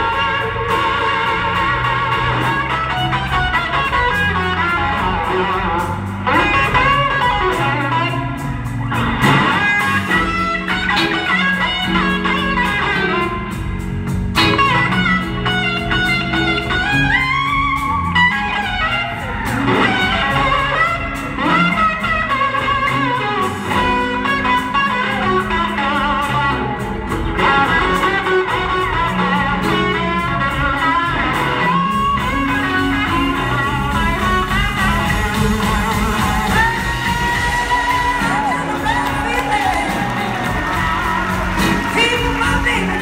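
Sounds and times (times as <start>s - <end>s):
electric guitar lead lines: 0.0s - 43.0s
live blues band playing: 0.0s - 43.0s.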